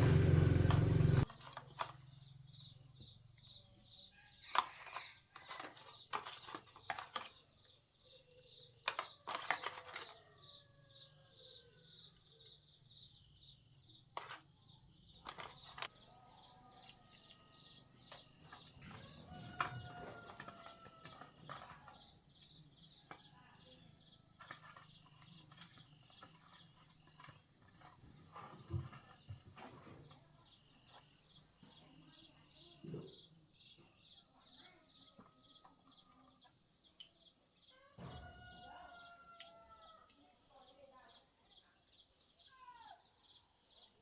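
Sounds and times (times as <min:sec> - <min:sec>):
insects chirring: 0:01.0 - 0:43.9.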